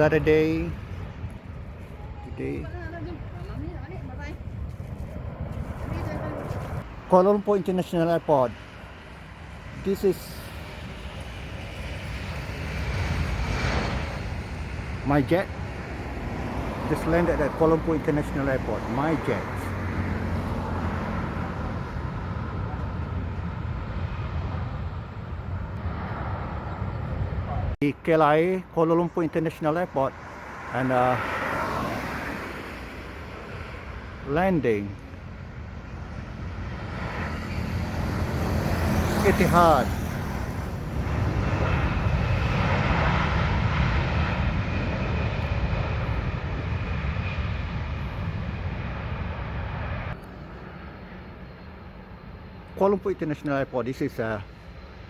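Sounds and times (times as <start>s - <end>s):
distant jet engines rumbling: 0.0s - 55.0s.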